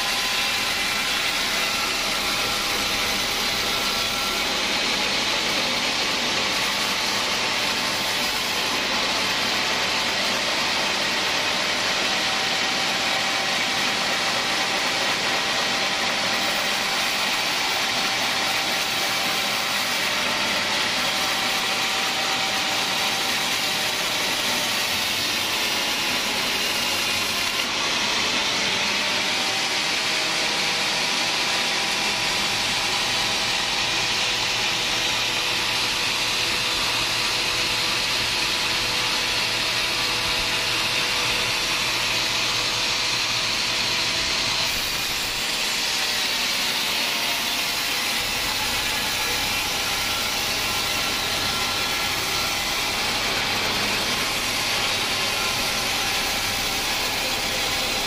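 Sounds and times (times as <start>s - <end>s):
sawmill machine hum: 0.0s - 58.0s.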